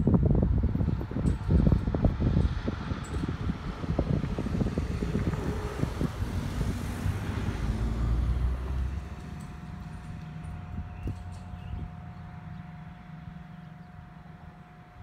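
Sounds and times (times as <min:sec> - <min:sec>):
low gusty rumble: 0:00.0 - 0:15.0
transformer hum with whine: 0:00.0 - 0:15.0
vehicle passing: 0:02.0 - 0:14.6.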